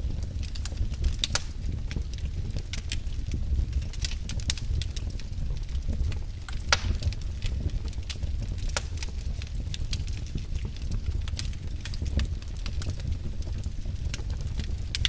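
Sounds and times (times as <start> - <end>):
fire low rumble: 0.0 - 15.0
wood fire crackling and popping: 0.0 - 15.0.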